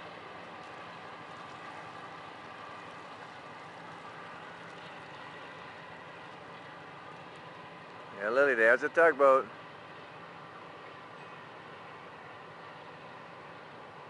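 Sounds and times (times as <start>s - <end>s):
churning water: 0.0s - 14.0s
tugboat engine drone: 0.0s - 14.0s.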